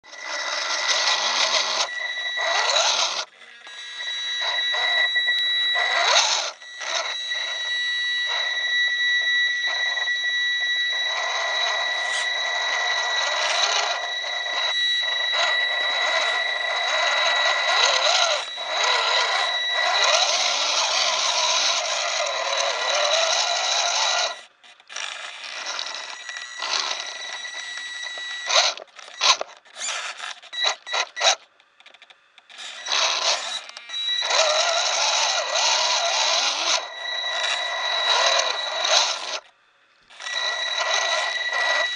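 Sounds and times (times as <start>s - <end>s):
steady high electronic tone: 0.0s - 24.5s, 25.6s - 28.8s, 32.8s - 39.4s, 40.1s - 41.9s
rc car motor and gears whining: 0.0s - 41.9s.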